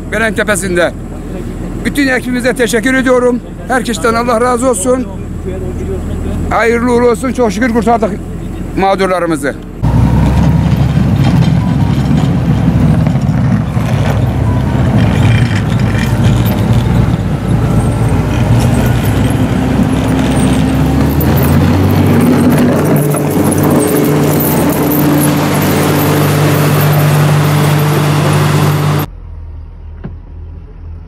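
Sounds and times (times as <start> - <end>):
diesel engine running under load: 0.0 - 31.0.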